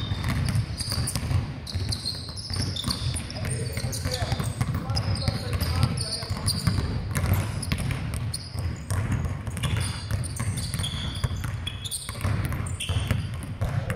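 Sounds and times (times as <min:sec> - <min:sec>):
basketballs bouncing on hardwood: 0:00.0 - 0:13.9
sneaker squeaks: 0:00.0 - 0:13.9.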